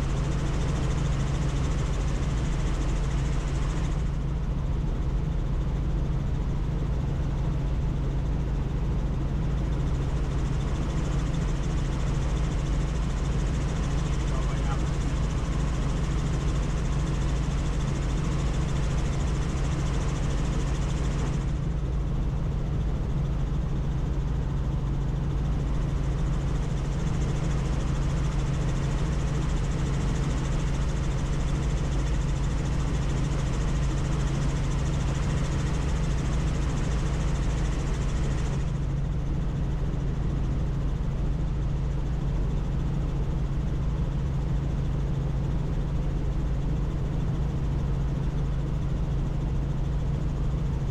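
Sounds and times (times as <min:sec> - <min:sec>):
helicopter rotor and engine drone: 0:00.0 - 0:50.9.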